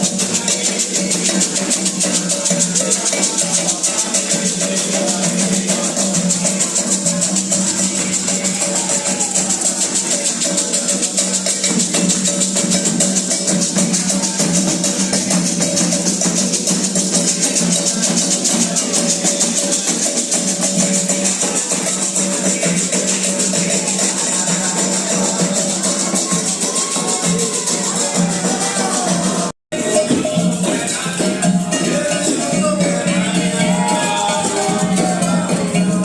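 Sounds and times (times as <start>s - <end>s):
shakers rattling: 0.0s - 36.0s.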